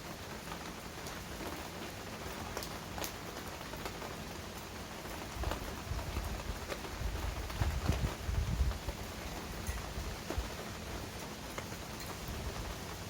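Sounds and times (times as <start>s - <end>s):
rain falling: 0.0s - 13.0s
raindrops tapping close surfaces: 0.0s - 13.0s.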